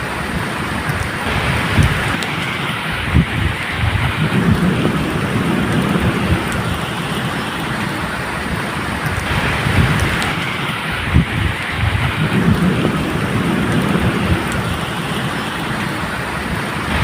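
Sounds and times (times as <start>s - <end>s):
medium rain falling: 0.0s - 17.0s
low thunder rumble: 0.3s - 17.0s.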